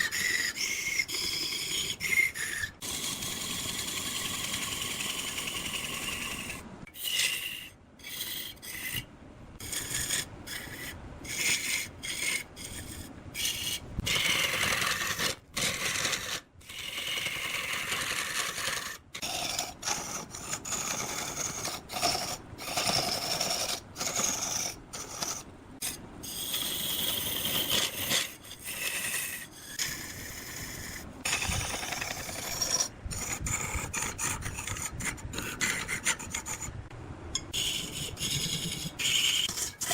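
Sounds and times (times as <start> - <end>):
tool rasping against wood: 0.0 - 36.8, 37.4 - 39.9.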